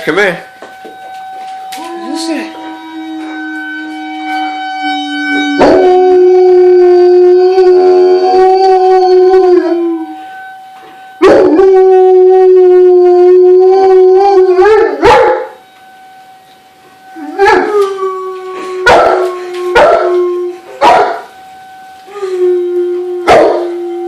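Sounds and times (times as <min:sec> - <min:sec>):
tornado alarm steady tone: 0:00.0 - 0:24.0
dog howling: 0:01.5 - 0:10.3, 0:11.2 - 0:15.6, 0:17.1 - 0:21.3, 0:22.0 - 0:24.0.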